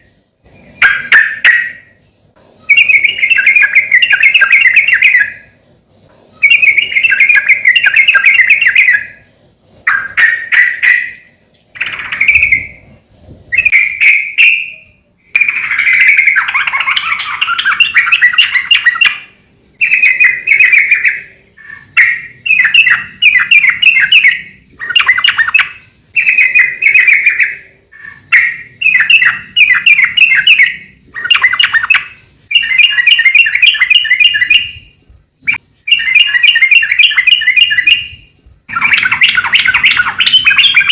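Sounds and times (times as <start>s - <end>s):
bulbul singing chattering song: 0.0s - 40.9s.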